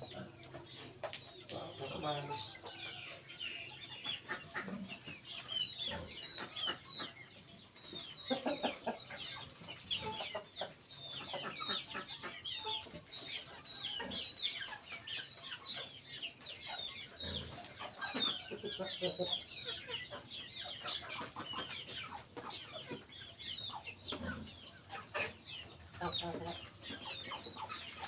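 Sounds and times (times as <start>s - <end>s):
chicks peeping: 0.0s - 28.0s
hen clucking: 0.0s - 28.0s.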